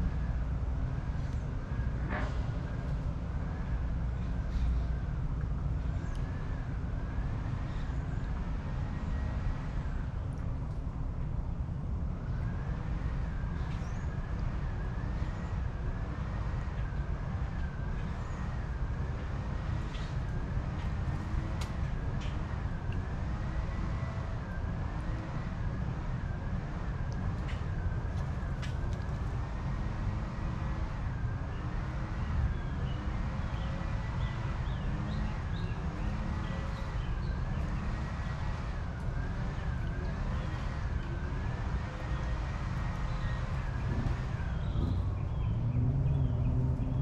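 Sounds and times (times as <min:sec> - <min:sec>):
low rumble of traffic: 0:00.0 - 0:47.0.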